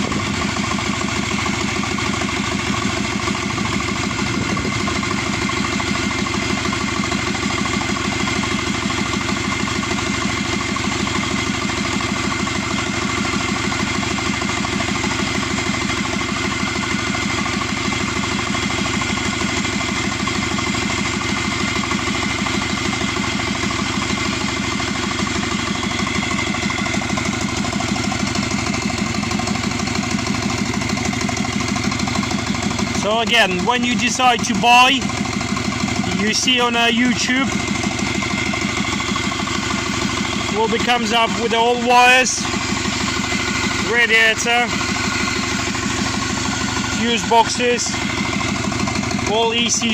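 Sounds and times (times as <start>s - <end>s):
engine idling with high whine: 0.0s - 49.9s.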